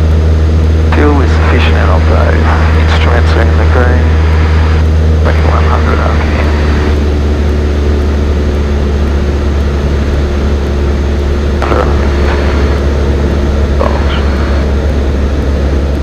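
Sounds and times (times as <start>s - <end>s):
airplane engine drone in cabin: 0.0s - 16.0s.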